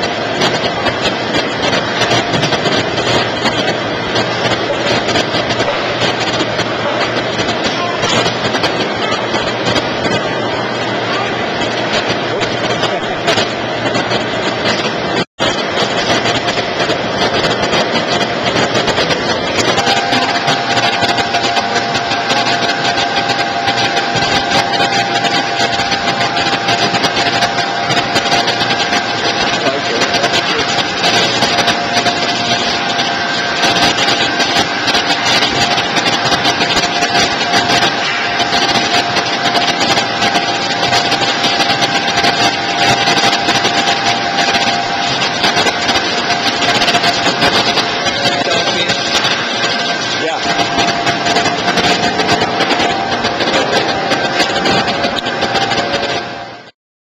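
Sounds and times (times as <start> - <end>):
dense mechanical noise: 0.0 - 56.8
machine motor whine: 0.0 - 56.8.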